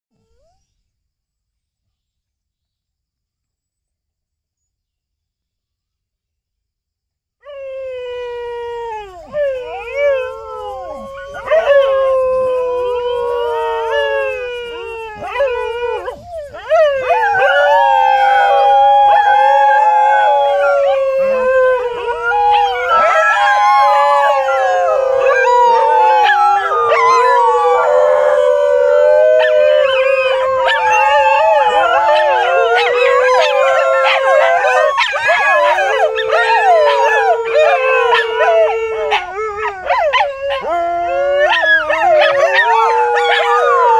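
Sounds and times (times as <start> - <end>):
dogs howling in chorus: 7.5 - 43.9.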